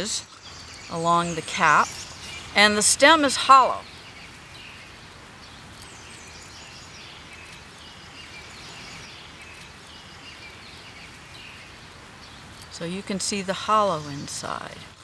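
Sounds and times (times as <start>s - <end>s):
outdoor background noise: 0.0s - 15.0s
high bird chirps: 0.2s - 12.8s.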